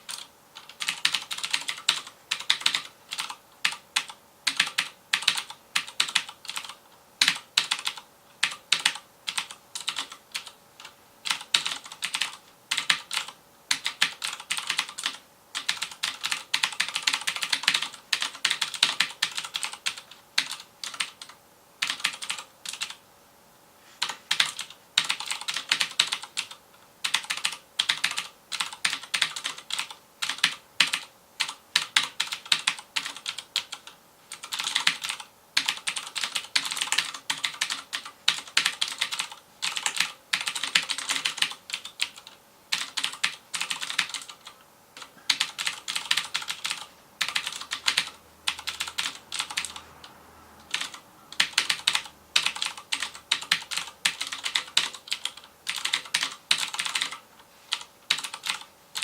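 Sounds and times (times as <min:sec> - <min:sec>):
clicky mechanical keyboard typing: 0:00.0 - 0:23.0, 0:24.0 - 0:59.0.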